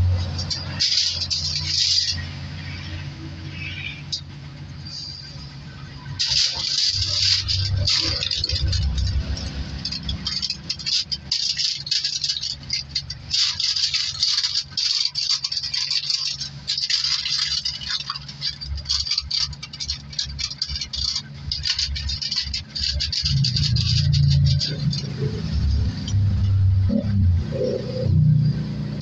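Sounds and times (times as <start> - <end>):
aluminium foil crinkling: 0.0 - 26.7.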